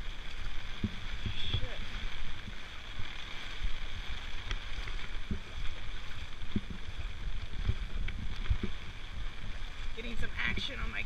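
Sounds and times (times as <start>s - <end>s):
heavy rain falling: 0.0s - 11.0s
wind buffeting microphone: 0.0s - 11.0s.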